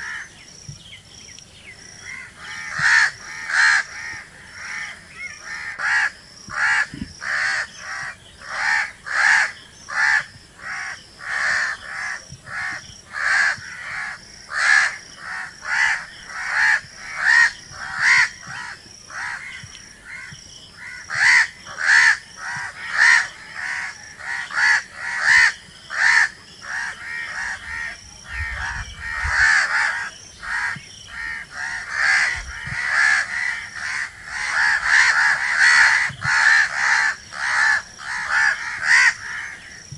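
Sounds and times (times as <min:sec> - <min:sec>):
crows cawing: 0:02.0 - 0:39.7.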